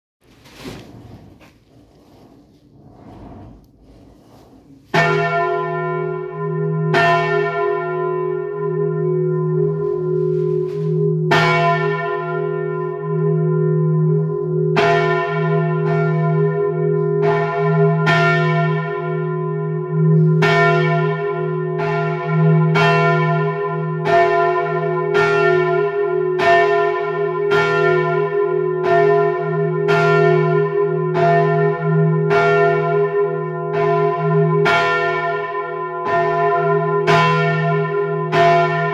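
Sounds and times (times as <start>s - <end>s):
church bells ringing: 4.9s - 38.9s.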